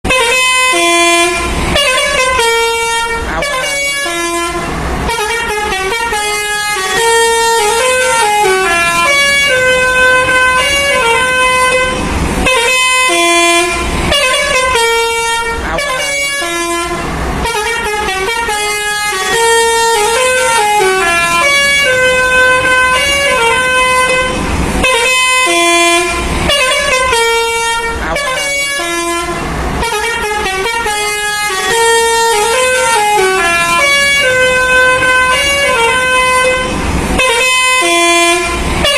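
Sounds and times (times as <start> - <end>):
multi-tone bus horn melody: 0.0 - 38.9.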